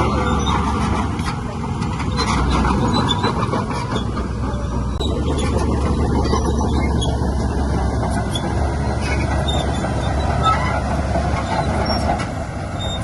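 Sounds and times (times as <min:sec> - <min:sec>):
diesel machinery engine rumble: 0:00.0 - 0:13.0
mechanical squeal and rattle: 0:00.0 - 0:13.0.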